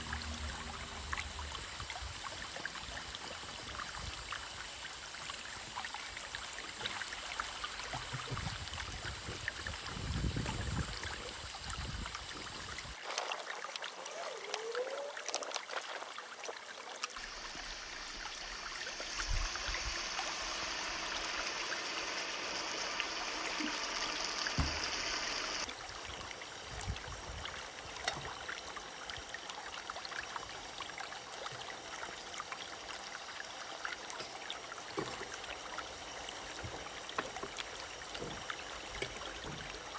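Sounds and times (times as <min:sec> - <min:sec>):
watery hissing with crackles: 0:00.0 - 0:39.9.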